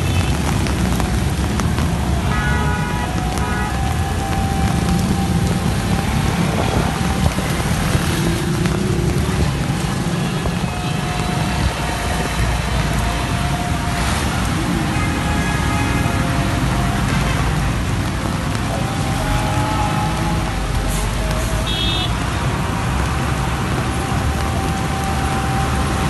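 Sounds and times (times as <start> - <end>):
rain on wet road: 0.0 - 26.0
truck and motorcycle engines: 0.0 - 26.0
tyres hissing on wet road: 0.0 - 26.0.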